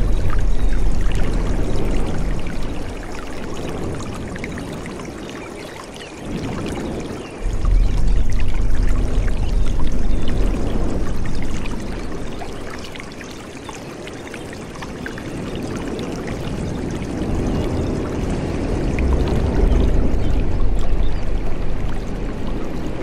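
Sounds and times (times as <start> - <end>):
stream water flowing and splashing: 0.0 - 23.0.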